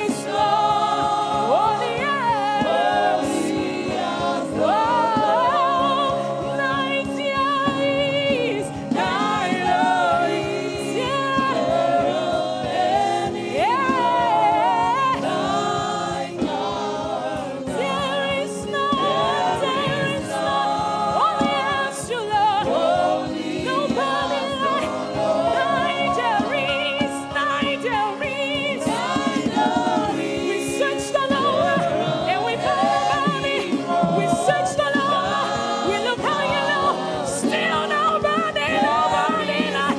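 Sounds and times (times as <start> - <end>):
accompanying music: 0.0 - 39.9
choir and congregation singing: 0.0 - 39.9.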